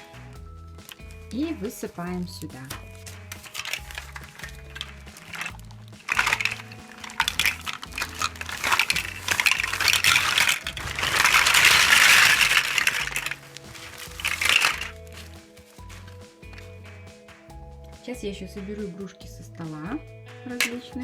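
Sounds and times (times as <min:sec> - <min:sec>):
plastic toys clattering: 0:00.0 - 0:16.9, 0:20.5 - 0:21.0.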